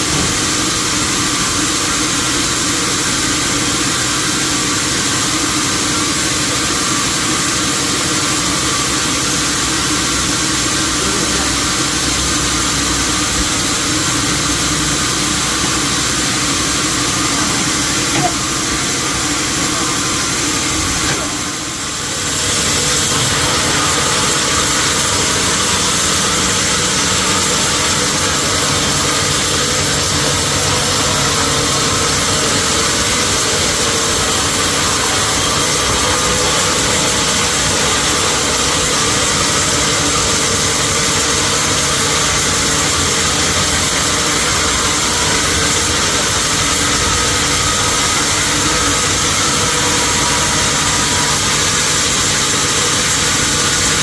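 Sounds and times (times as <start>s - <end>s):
sawmill machinery hum: 0.0s - 54.0s.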